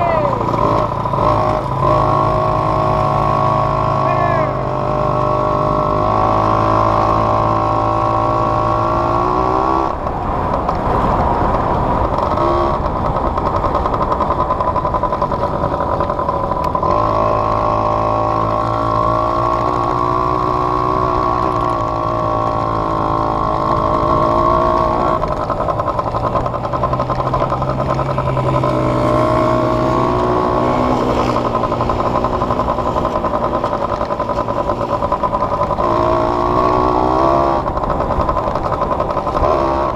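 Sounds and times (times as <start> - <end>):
off-road vehicle engine revving: 0.0 - 10.0, 16.6 - 39.9.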